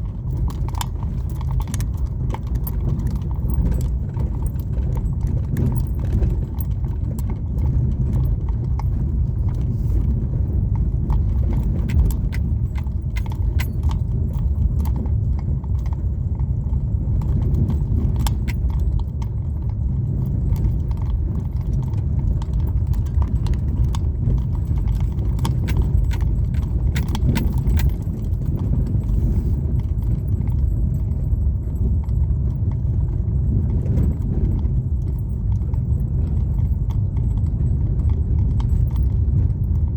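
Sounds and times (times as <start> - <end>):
road and engine rumble: 0.0 - 39.9
small rattles and clicks: 0.0 - 39.9.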